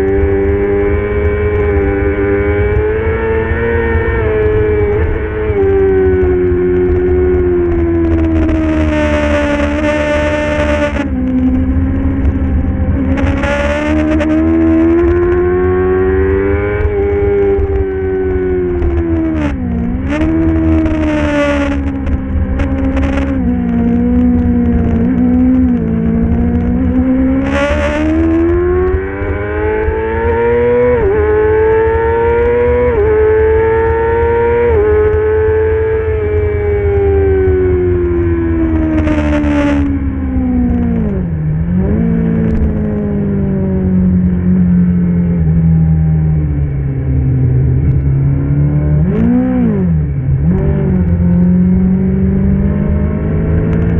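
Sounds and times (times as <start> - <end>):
motorcycle engine running hard: 0.0 - 53.9.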